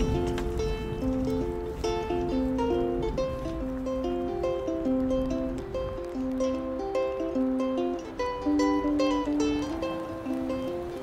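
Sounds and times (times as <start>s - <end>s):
solo ukulele playing: 0.0s - 11.0s.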